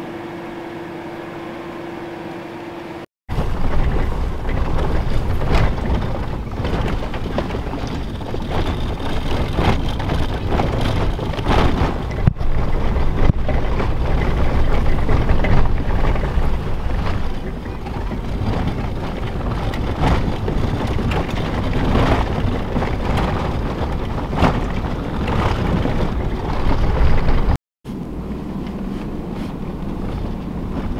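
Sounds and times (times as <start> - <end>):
rushing wind: 3.3 - 30.9
truck driving over rough ground: 3.3 - 30.9
vehicle jolts: 3.3 - 30.9.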